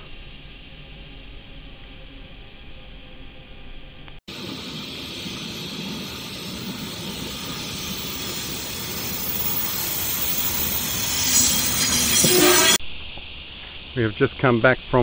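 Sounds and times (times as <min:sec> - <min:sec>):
electric train passing: 0:00.2 - 0:12.8.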